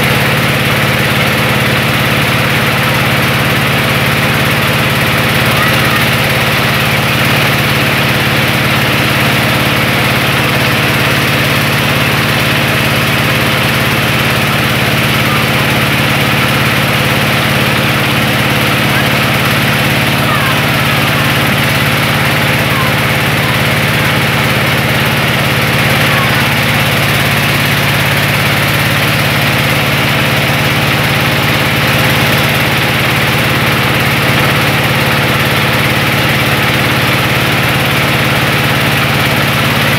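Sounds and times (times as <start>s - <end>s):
rice-milling machine running: 0.0s - 39.9s.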